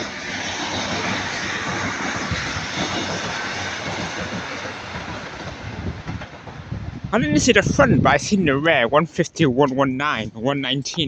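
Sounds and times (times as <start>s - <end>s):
train passing with rushing rumble: 0.0s - 11.0s.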